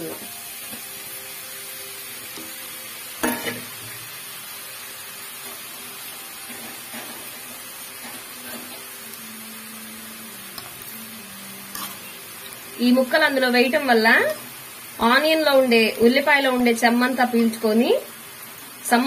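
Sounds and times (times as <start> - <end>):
oil sizzling and bubbling: 0.0 - 19.0.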